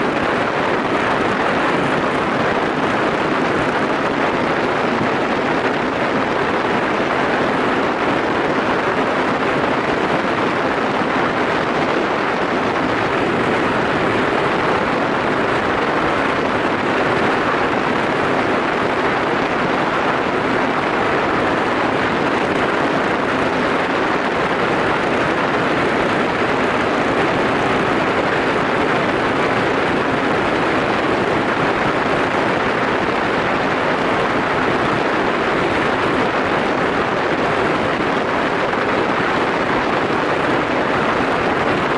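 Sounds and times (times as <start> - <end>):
wind and road noise: 0.0 - 41.9.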